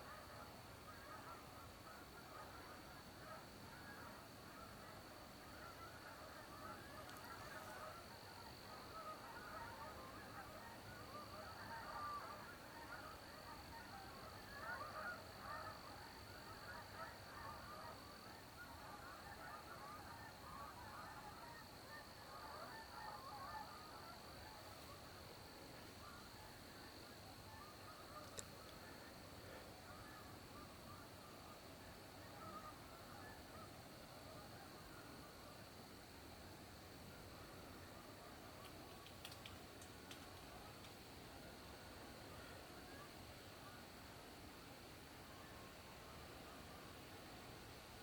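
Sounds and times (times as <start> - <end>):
flock of geese honking: 0.0 - 48.0.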